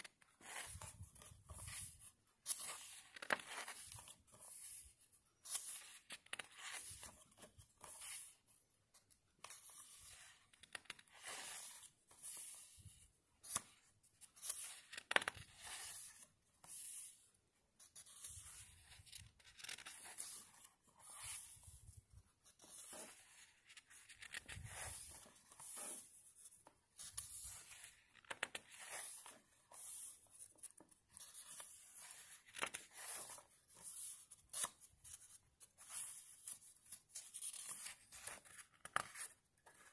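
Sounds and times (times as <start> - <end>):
book pages turning: 0.0 - 39.9.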